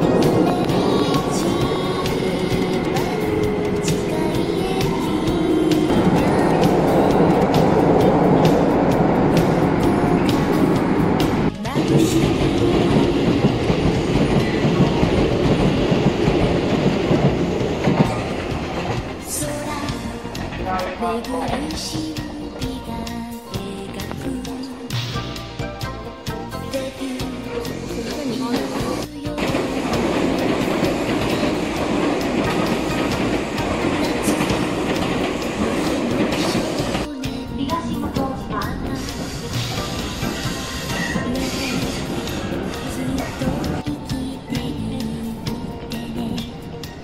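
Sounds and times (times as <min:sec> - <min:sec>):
electric train rumbling past: 0:00.0 - 0:47.0.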